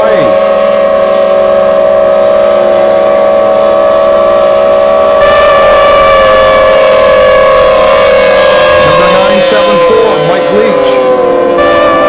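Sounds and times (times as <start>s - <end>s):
outboard motors high-pitched whine: 0.0s - 12.0s.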